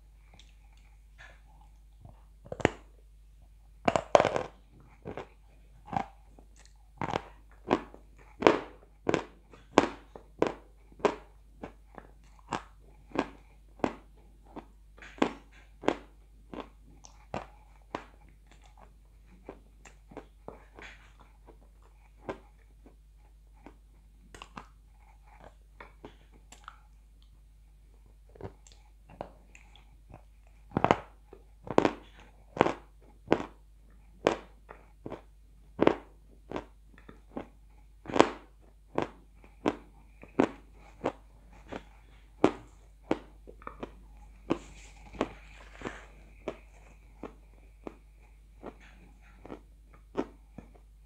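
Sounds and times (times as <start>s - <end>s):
person crunching and chewing: 0.3s - 3.0s, 3.9s - 23.0s, 31.7s - 51.0s.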